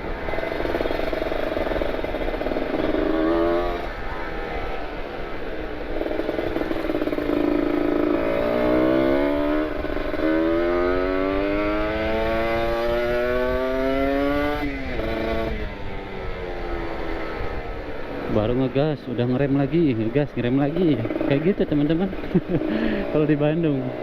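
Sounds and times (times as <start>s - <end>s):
motorcycle engine accelerating: 0.0s - 19.4s, 20.0s - 24.0s.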